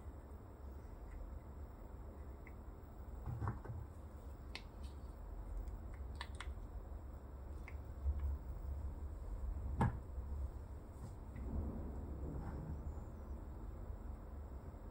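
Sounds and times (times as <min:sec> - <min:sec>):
faint low hum: 0:00.0 - 0:14.9.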